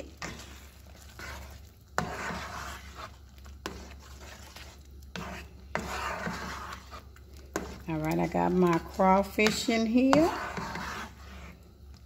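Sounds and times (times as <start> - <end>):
spatula stirring thick sauce: 0.0 - 12.0.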